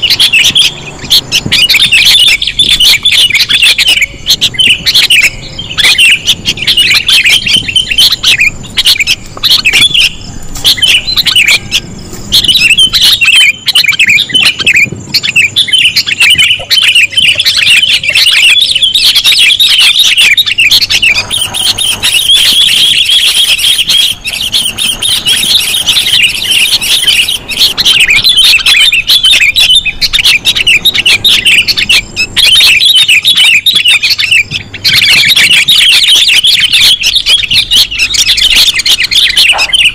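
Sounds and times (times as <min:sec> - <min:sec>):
bulbul chirping and chattering: 0:00.0 - 0:39.9.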